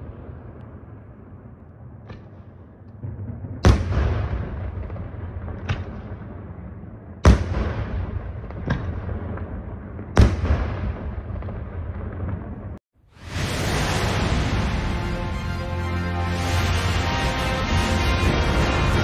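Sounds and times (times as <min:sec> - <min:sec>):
rumbling echo: 0:02.3 - 0:19.0.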